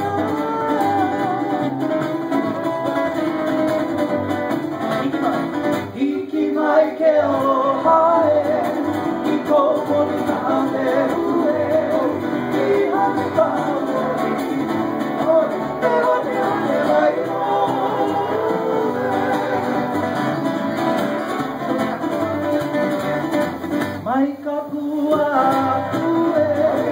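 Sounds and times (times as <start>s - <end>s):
person singing: 0.0s - 4.1s, 4.9s - 26.9s
strummed acoustic guitars: 0.0s - 26.9s.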